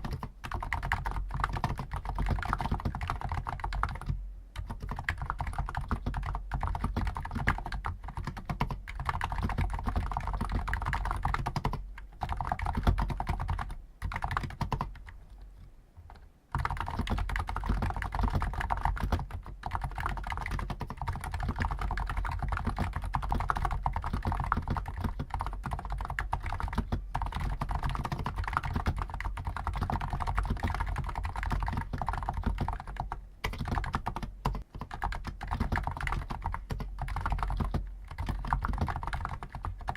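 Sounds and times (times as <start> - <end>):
rapid keyboard typing: 0.0 - 15.4, 16.1 - 39.9.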